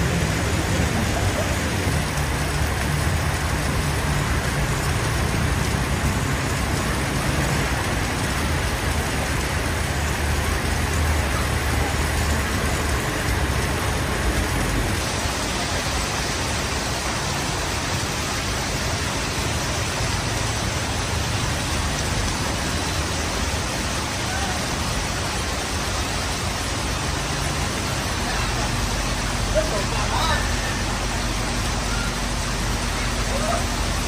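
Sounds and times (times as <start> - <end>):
heavy rain hissing: 0.0 - 34.0
vehicle engine running low: 0.0 - 34.0.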